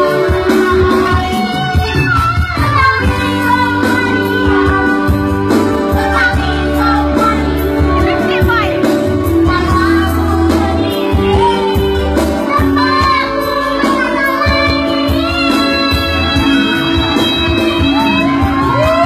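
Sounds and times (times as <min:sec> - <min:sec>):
backing music with bass: 0:00.0 - 0:19.0
child singing: 0:00.0 - 0:19.0.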